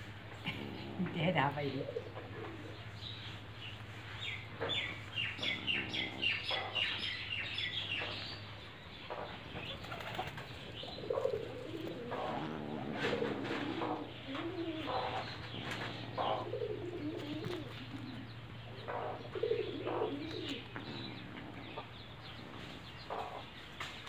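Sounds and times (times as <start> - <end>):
birds chirping: 0.0 - 24.0
bird cooing: 0.4 - 3.5, 4.2 - 8.3, 9.7 - 23.5.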